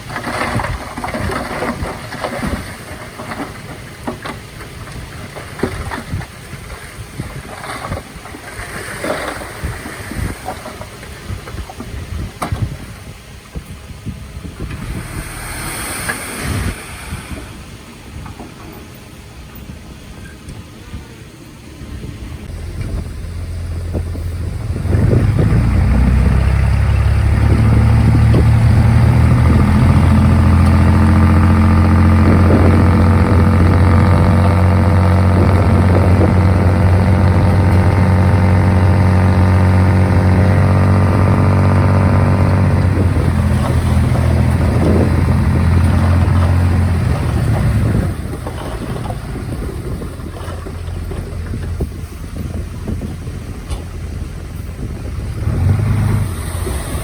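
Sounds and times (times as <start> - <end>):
rough mechanical noise: 0.0 - 12.9, 13.6 - 19.5, 21.7 - 57.0
bulldozer diesel engine running: 0.0 - 57.0.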